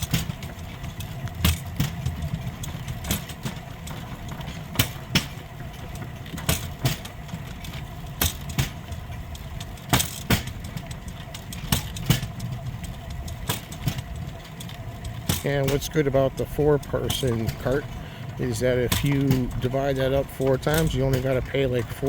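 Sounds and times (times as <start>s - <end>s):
steel wheels rumbling on rails: 0.0s - 22.0s
wheels clicking over rail joints: 0.0s - 22.0s.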